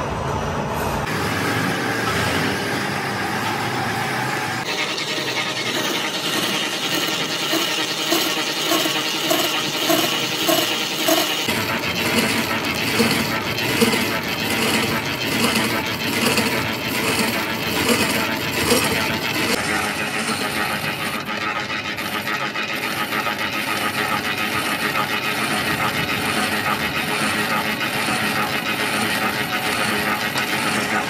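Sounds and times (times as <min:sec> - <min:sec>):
lathe cutting metal: 0:01.1 - 0:31.0.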